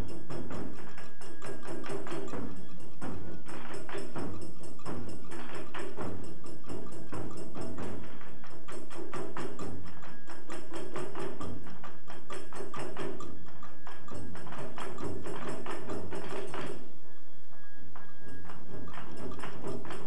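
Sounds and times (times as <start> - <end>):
fast percussion rhythm: 0.0 - 17.0, 17.9 - 20.0
low drum beats: 0.0 - 20.0.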